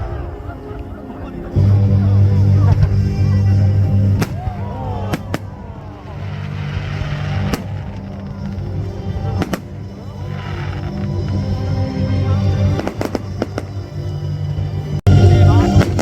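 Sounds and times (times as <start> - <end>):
fireworks bangs: 0.0 - 11.7, 12.4 - 13.9, 15.4 - 16.0
fireworks crackling hiss: 0.0 - 13.8
music with steady bass: 0.0 - 16.0.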